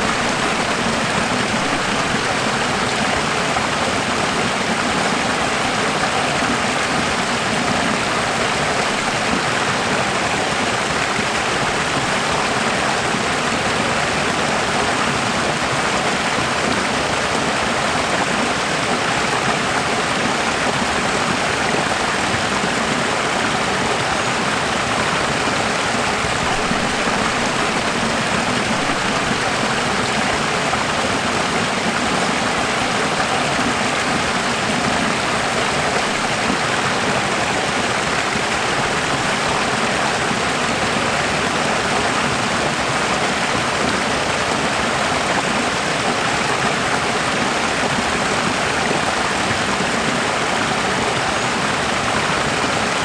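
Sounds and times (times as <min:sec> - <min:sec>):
running water flowing: 0:00.0 - 0:53.0.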